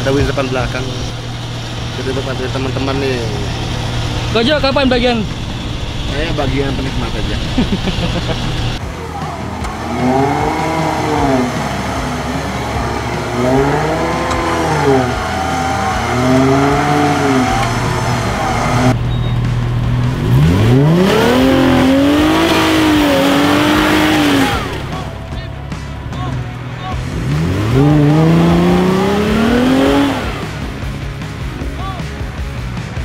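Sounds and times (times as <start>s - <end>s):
off-road engines revving: 0.0s - 33.0s.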